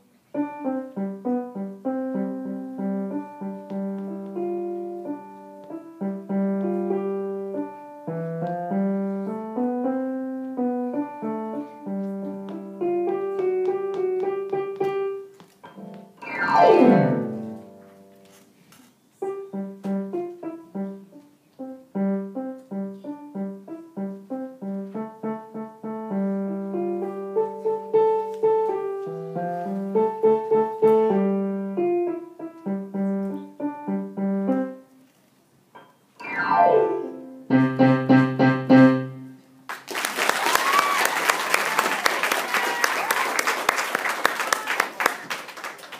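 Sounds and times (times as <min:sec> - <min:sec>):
digital piano melody: 0:00.4 - 0:18.1, 0:19.2 - 0:34.9, 0:35.7 - 0:39.6
piano glissando: 0:00.4 - 0:18.2, 0:19.2 - 0:34.9, 0:35.7 - 0:39.5.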